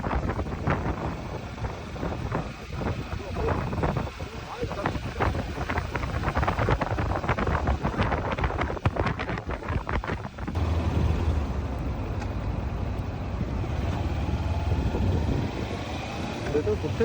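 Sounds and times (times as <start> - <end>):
steady low rumble: 0.0 - 15.8
wind buffeting microphone: 0.0 - 17.0.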